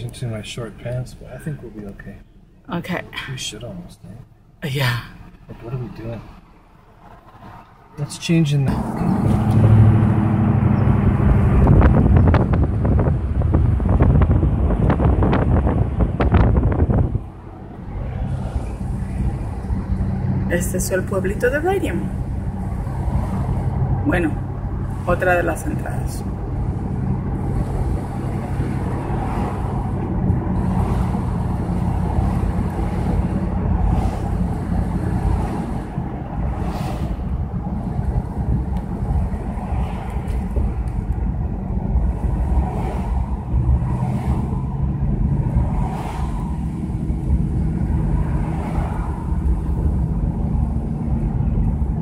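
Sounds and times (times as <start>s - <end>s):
car road and engine hum: 0.0s - 52.0s
wind buffeting microphone: 8.7s - 52.0s.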